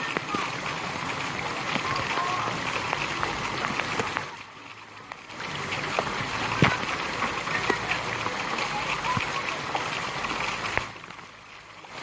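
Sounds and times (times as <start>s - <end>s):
stream water running and splashing: 0.0s - 12.0s.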